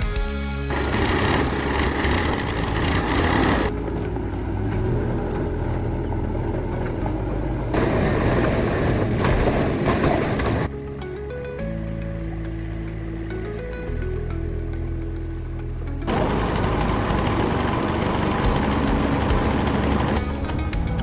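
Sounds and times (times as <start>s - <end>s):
vehicle engine running: 0.7s - 21.0s.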